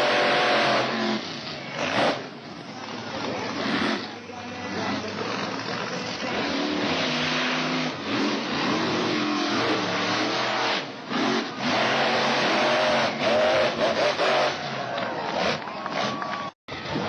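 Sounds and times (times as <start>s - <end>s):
truck engine revving: 0.0s - 16.6s.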